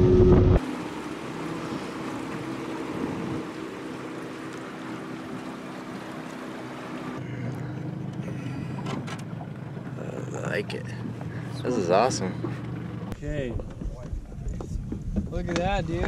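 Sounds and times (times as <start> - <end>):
water rushing past: 0.0 - 13.1
outboard motor running: 0.0 - 16.0.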